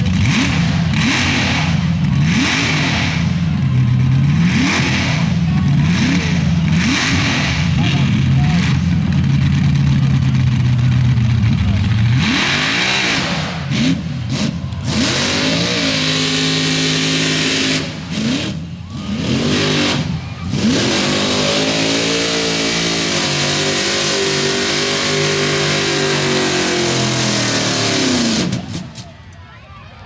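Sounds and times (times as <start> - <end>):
buggy engine revving hard: 0.0 - 29.0.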